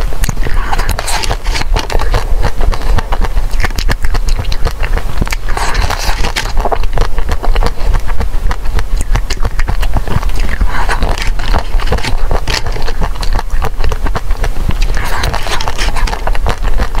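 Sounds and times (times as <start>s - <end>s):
chewing and crunching ice cream: 0.0s - 17.0s.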